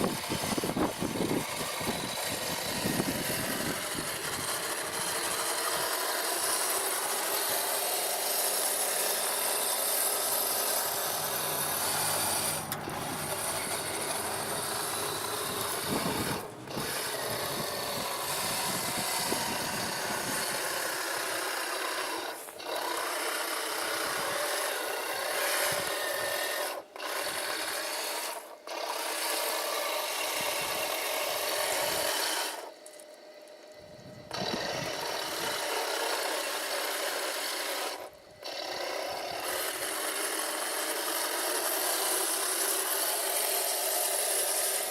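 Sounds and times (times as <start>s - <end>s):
toy tank tracks grinding: 0.0s - 44.9s.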